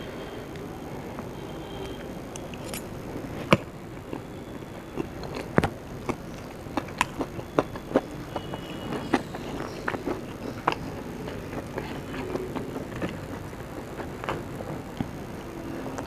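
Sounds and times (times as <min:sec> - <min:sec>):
chewing clicks: 0:01.9 - 0:16.0.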